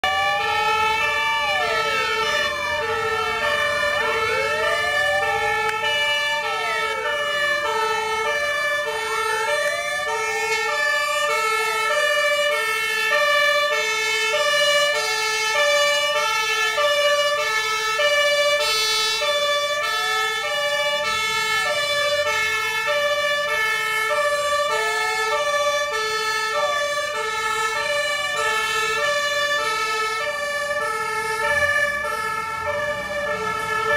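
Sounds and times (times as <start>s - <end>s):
two-note hi-lo siren: 0.0s - 33.9s
wailing sirens: 0.0s - 33.9s.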